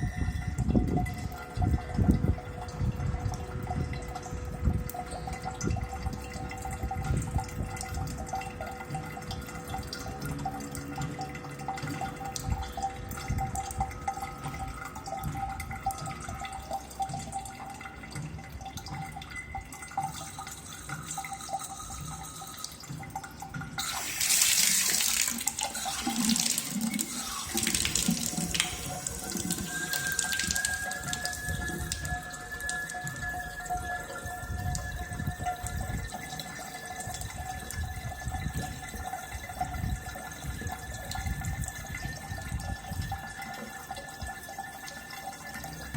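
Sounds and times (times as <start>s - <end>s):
faucet whistle: 0.0s - 17.9s, 23.8s - 45.9s
faucet high-pitched whine: 0.0s - 45.9s
water trickling from faucet: 0.0s - 45.9s.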